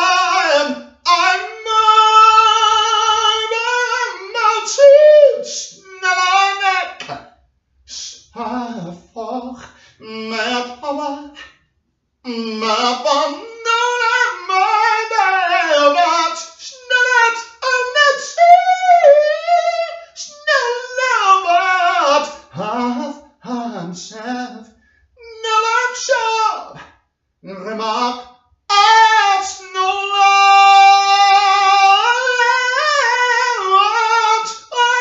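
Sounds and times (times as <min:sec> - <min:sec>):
person singing unaccompanied: 0:00.0 - 0:07.2, 0:07.9 - 0:11.4, 0:12.2 - 0:24.6, 0:25.2 - 0:26.8, 0:27.4 - 0:35.0.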